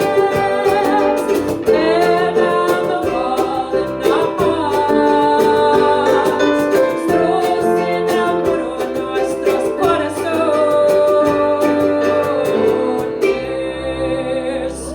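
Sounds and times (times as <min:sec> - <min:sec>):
strummed acoustic string instrument: 0:00.0 - 0:14.9
woman singing long notes: 0:00.0 - 0:14.9.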